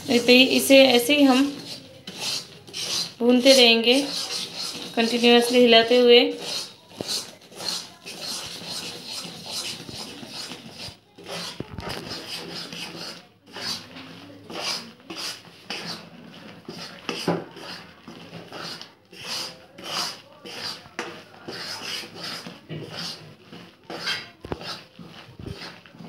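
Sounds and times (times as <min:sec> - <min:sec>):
metal spatula scraping pan: 0:00.0 - 0:26.0.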